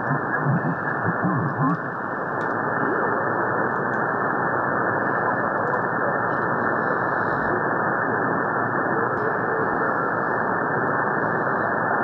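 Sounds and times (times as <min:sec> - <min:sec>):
shortwave radio hiss: 0:00.0 - 0:12.0.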